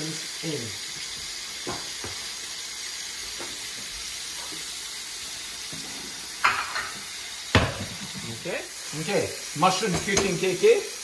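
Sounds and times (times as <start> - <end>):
bacon sizzling in frying pan: 0.0 - 11.0.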